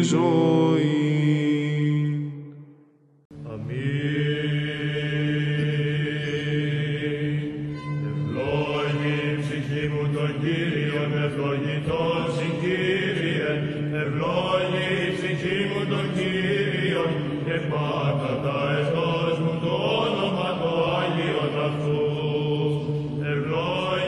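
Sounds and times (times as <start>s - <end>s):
wordless hymn chanting: 0.0s - 24.0s.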